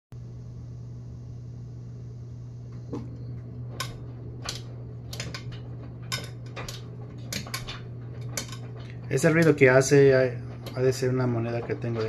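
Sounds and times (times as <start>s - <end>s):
washing machine humming: 0.1s - 12.0s.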